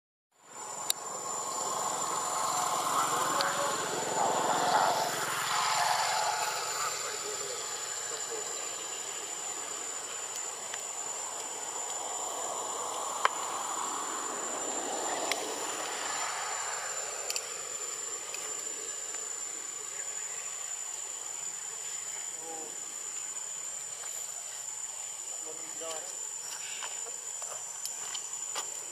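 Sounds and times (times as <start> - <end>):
high-pitched insect whine: 0.4 - 28.9
indistinct murmur: 0.5 - 27.7.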